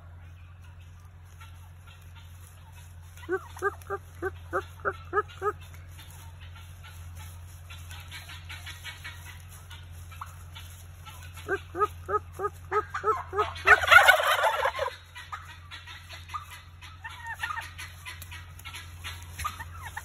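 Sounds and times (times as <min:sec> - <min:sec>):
wild turkeys calling: 0:00.0 - 0:20.0
turkey gobble: 0:00.2 - 0:20.0.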